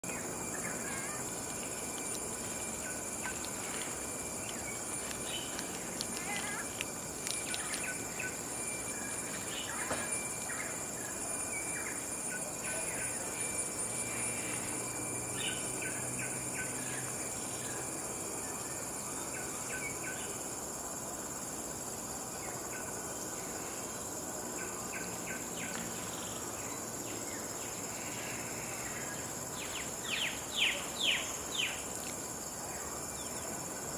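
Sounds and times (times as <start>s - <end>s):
insect drone: 0.0s - 33.9s.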